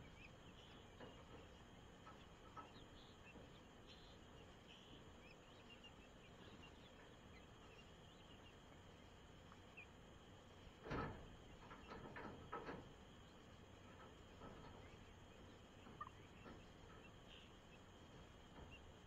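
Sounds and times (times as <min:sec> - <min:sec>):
chickens calling: 0:00.0 - 0:19.0
insects chirping: 0:00.0 - 0:19.0.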